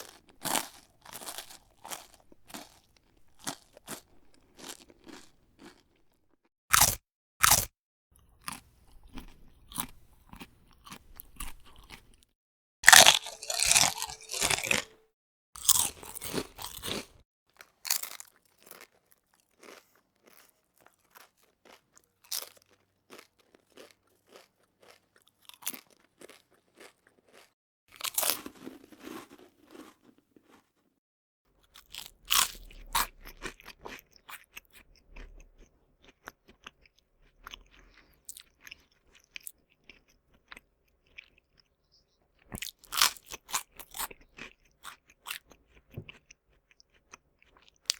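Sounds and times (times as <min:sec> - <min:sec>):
crisp food crunching: 0:00.0 - 0:07.7, 0:12.8 - 0:15.0, 0:15.6 - 0:30.7, 0:31.8 - 0:41.8, 0:42.4 - 0:47.9.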